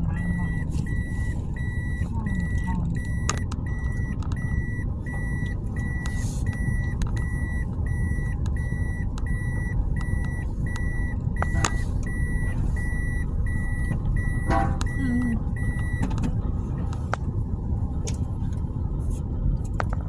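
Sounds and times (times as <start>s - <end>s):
car warning chime beeping: 0.0s - 16.2s
car rumble: 0.0s - 20.0s.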